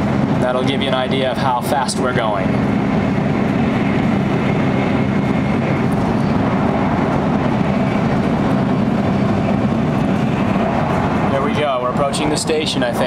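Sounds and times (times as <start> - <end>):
train running inside passenger car: 0.0 - 13.0.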